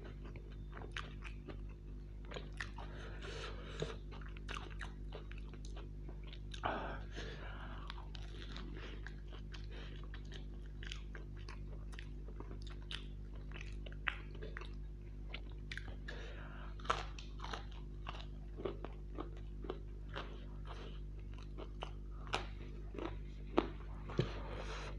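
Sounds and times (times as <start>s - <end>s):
crunching crisp pastry: 0.0s - 24.9s.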